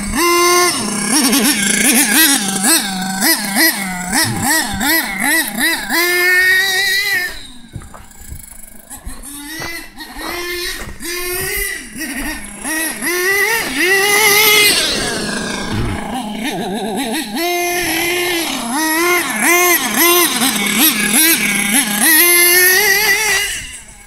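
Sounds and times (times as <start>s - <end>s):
rc car motor revving: 0.0s - 24.0s.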